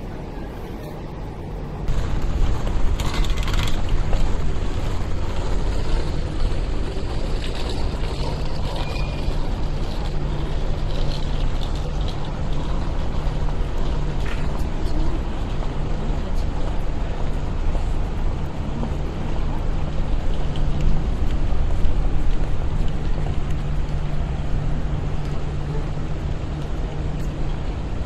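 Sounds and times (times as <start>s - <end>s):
city street rumble and hum: 0.0s - 28.0s.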